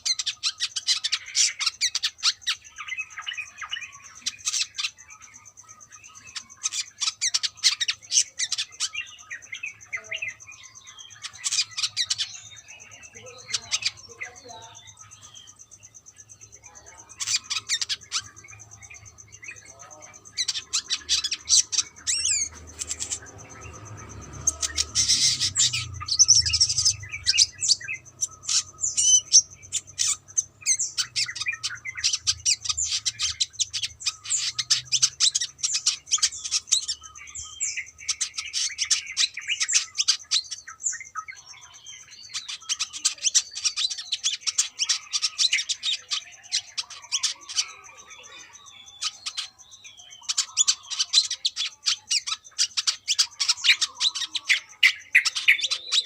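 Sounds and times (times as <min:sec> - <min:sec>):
bird singing high chirps: 0:00.0 - 0:56.0.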